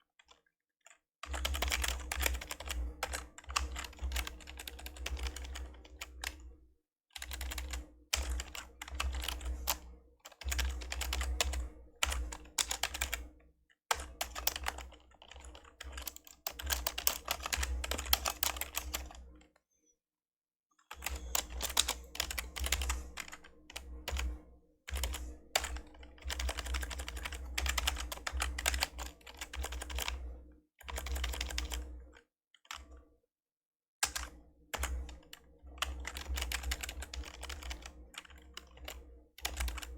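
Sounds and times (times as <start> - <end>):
fast typing on membrane keyboard: 1.2 - 6.4, 7.2 - 13.3, 13.9 - 19.2, 20.9 - 30.2, 30.8 - 31.8, 34.0 - 39.9.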